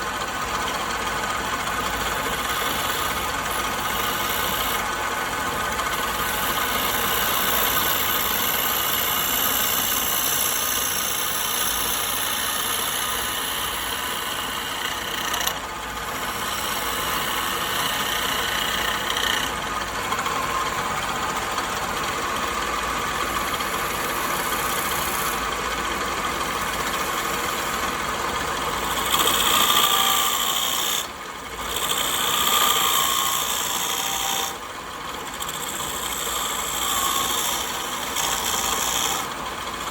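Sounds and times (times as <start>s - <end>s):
power tool whining on wood: 0.0s - 39.9s.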